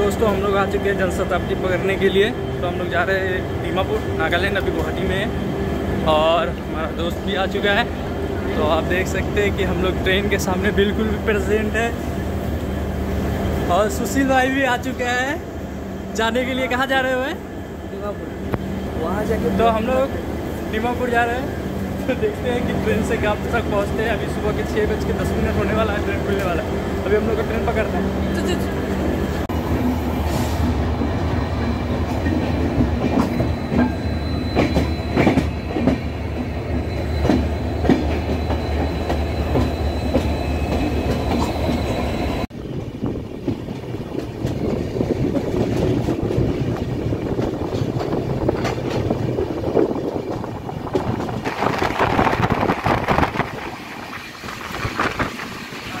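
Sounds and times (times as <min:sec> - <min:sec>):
diesel locomotive engine hum: 0:00.0 - 0:56.0
moving train rumble and rattle: 0:00.0 - 0:56.0.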